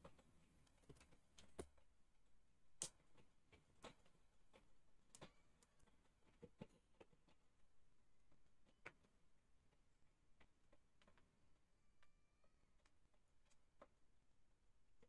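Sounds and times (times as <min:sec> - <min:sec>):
faint irregular clicks: 0:00.0 - 0:15.0.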